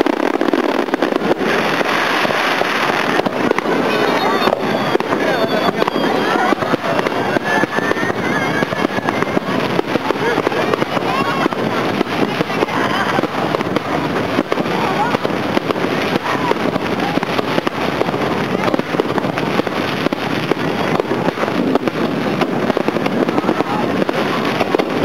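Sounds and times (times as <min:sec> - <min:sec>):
fireworks crackling: 0:00.0 - 0:25.0
people's voices: 0:00.0 - 0:25.0.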